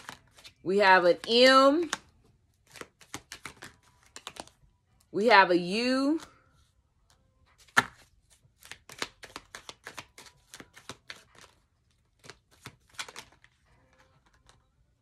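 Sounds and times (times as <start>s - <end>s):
cards being shuffled: 0.0s - 4.6s, 7.0s - 14.8s.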